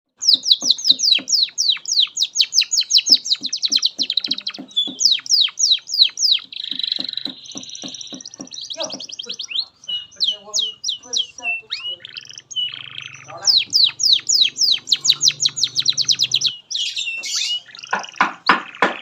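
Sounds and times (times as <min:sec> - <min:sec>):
canary singing: 0:00.1 - 0:19.0.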